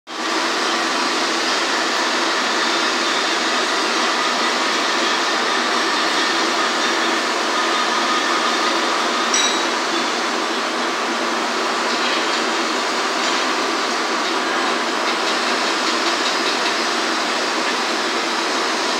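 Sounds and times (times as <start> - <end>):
ventilation fan rushing air: 0.2 - 18.9.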